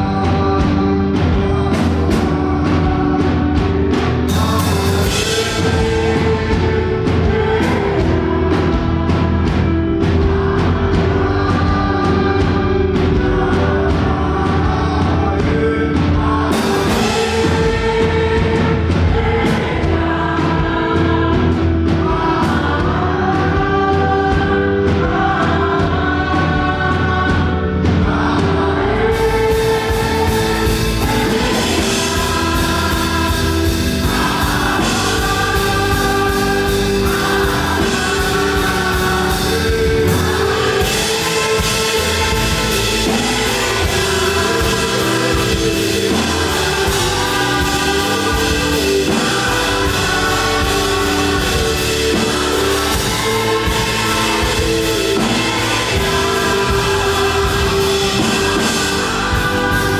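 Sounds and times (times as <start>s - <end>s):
band playing gospel music: 0.0s - 59.9s
group of singers: 0.0s - 59.9s.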